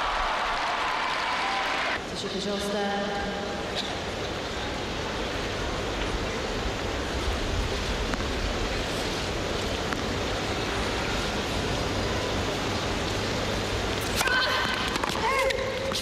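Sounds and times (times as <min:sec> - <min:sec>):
crowd noise indoors: 0:00.0 - 0:16.0.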